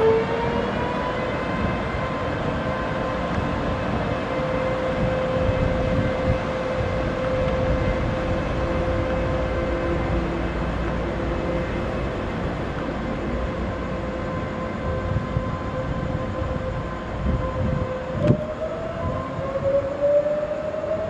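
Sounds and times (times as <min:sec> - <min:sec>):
train motor whine: 0:00.0 - 0:21.0.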